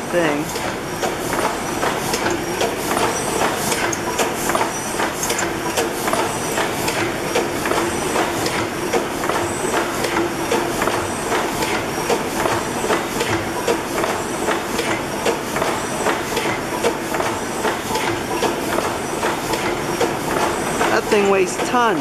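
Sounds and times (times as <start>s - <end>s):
gas engine compressor clattering: 0.0s - 22.0s.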